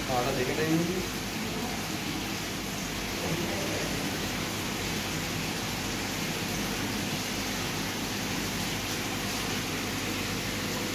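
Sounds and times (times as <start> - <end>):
running water hissing: 0.0 - 10.9.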